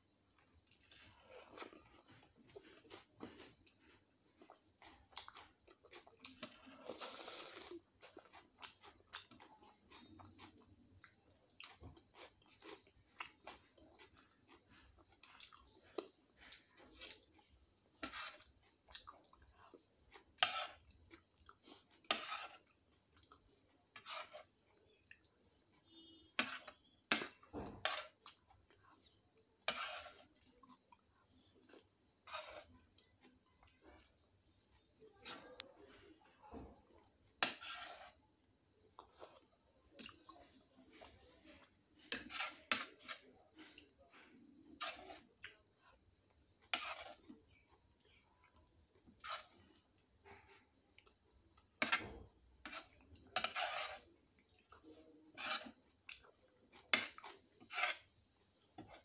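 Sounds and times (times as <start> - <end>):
chewing and crunching food: 0.3 - 59.0.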